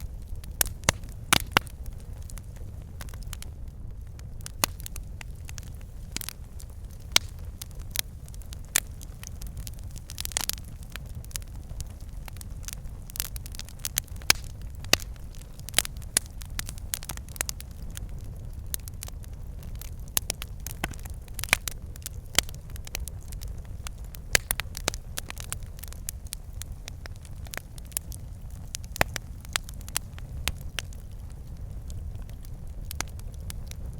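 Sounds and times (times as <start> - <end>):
logs crackling and popping: 0.0 - 33.9
rumble of fire flames: 0.0 - 33.9.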